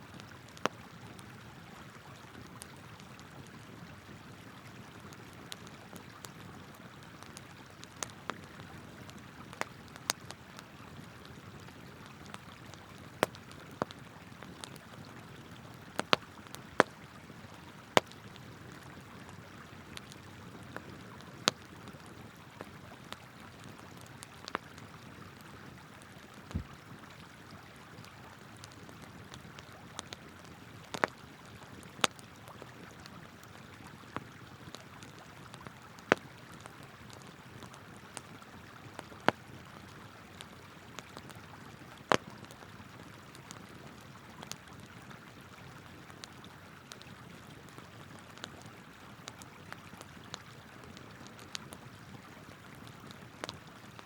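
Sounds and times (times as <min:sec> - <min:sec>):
campfire crackling and popping: 0:00.1 - 0:54.0.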